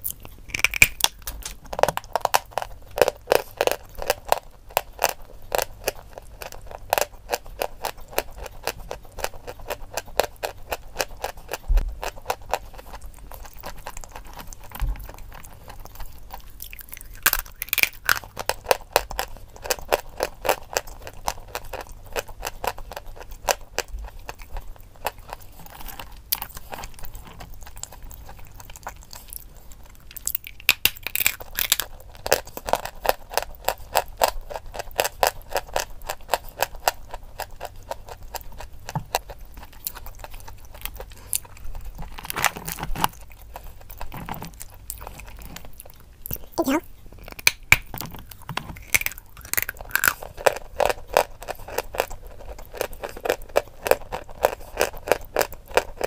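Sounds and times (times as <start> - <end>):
chalk crunching when chewed: 0.0 - 56.0.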